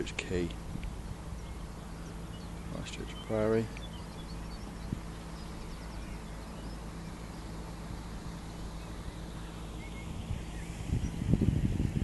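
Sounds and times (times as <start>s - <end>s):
low steady hum: 0.0s - 12.0s
faint bird chirps: 1.3s - 11.8s.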